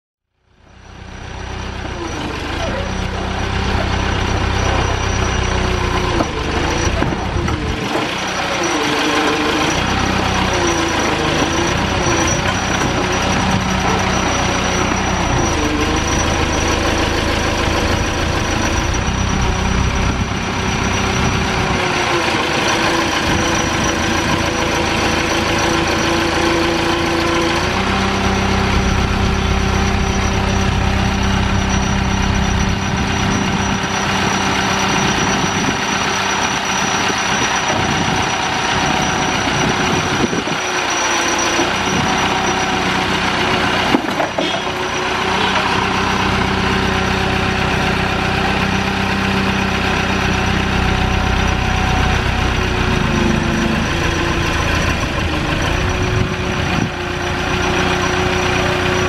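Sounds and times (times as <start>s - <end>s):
diesel engine running: 0.3s - 59.0s.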